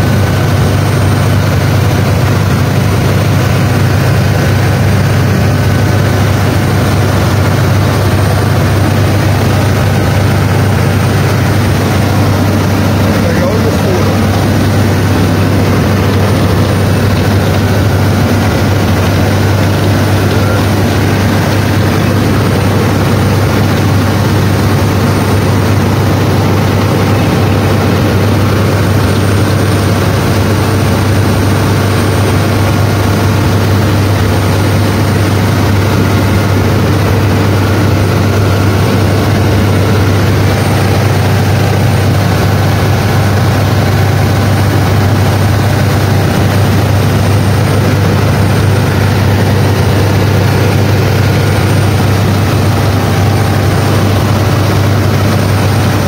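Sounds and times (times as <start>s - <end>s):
speedboat engine droning: 0.0s - 56.0s.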